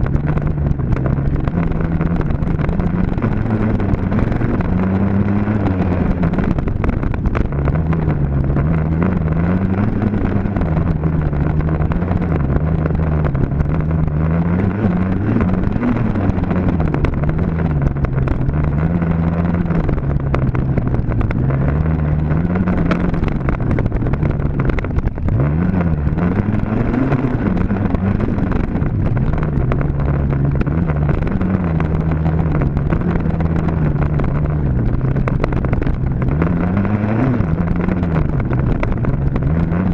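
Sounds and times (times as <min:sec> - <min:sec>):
dirt bike engine revving: 0:00.0 - 0:34.6.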